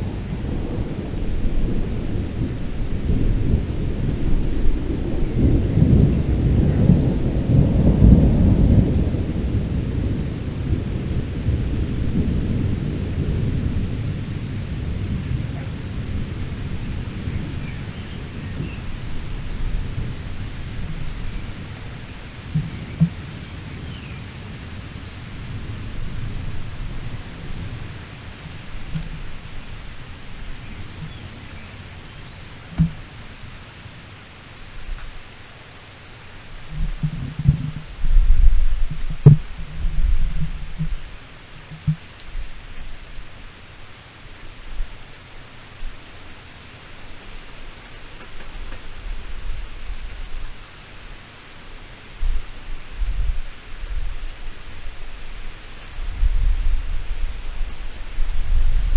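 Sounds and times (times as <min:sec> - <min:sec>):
thunder rumbling: 0:00.0 - 0:34.2, 0:36.4 - 0:43.4, 0:52.1 - 0:58.9
steady heavy rain: 0:00.0 - 0:58.9.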